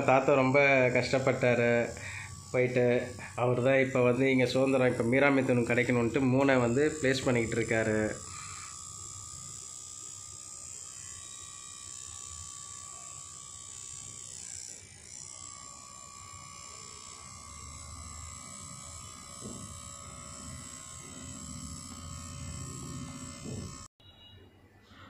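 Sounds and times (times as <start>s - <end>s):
tattoo machine buzzing: 0.0s - 23.9s.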